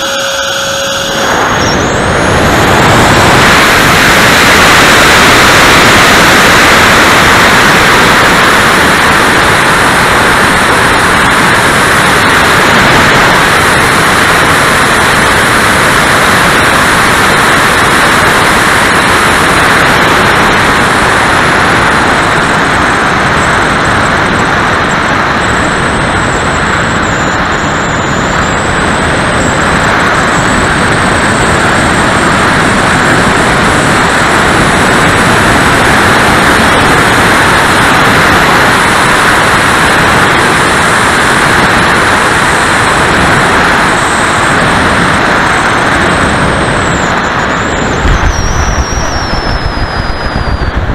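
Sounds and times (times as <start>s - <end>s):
electric fan and air rush: 0.0s - 50.9s
thin high whine: 0.0s - 50.9s.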